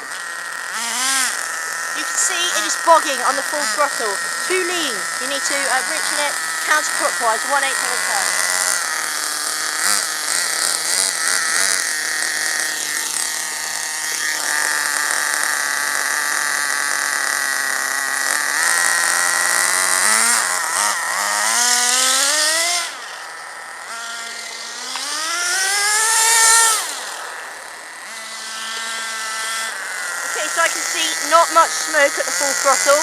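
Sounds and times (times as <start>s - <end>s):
nitro engine revving: 0.0s - 33.0s.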